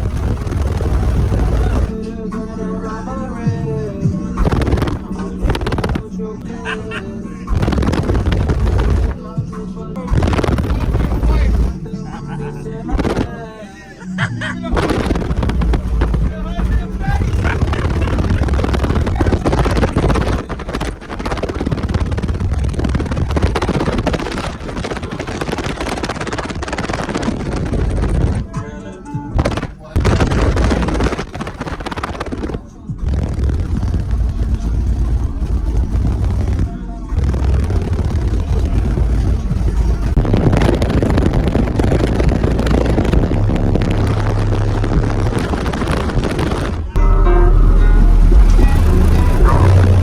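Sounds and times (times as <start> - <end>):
crackling overloaded noise: 0.0 - 2.1, 4.3 - 9.4, 10.0 - 11.9, 12.9 - 13.4, 14.7 - 28.6, 29.3 - 50.0
air buffeting microphone: 0.0 - 2.3, 3.4 - 50.0
deep car audio bass: 0.0 - 50.0.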